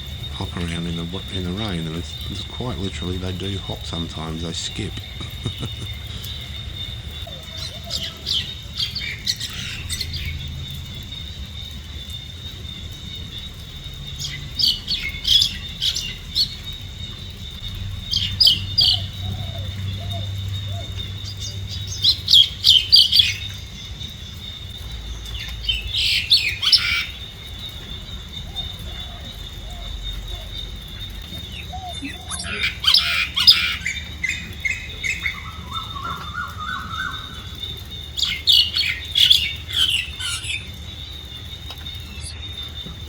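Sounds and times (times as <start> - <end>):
bird chirping: 0.0 - 43.0
steady high-pitched whine: 0.0 - 43.0.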